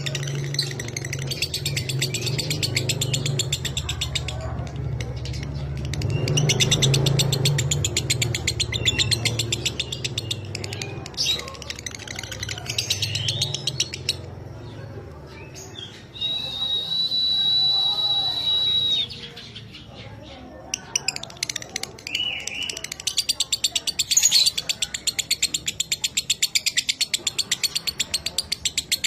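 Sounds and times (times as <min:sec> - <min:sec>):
lovebird buzzy chattering trill: 0:00.0 - 0:16.9, 0:20.5 - 0:29.0.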